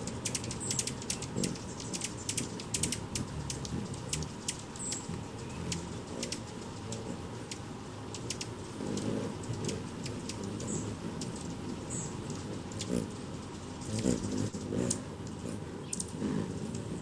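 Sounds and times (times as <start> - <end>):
hummingbird chip calls: 0.0 - 17.0
low background rumble: 0.0 - 17.0.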